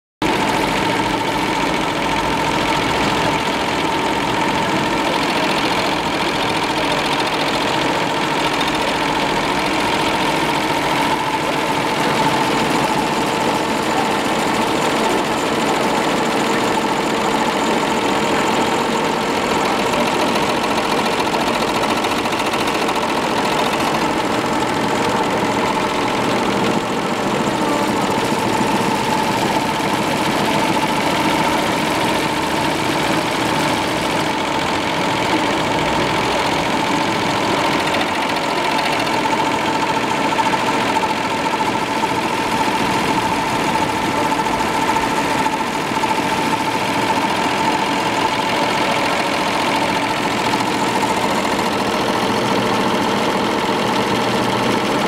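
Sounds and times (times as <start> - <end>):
machine whine: 0.2 - 55.0.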